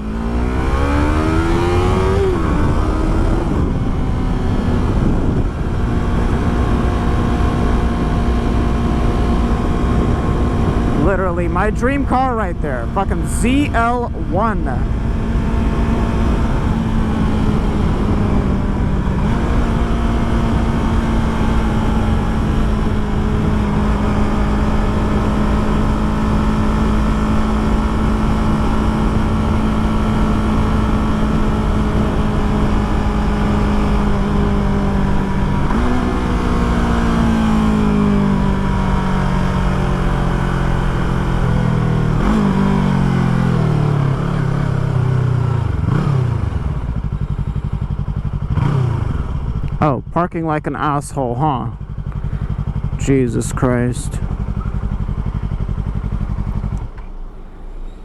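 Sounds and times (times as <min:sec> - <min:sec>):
wind rumble on microphone: 0:00.0 - 0:50.2
motorcycle engine revving: 0:00.0 - 0:58.0.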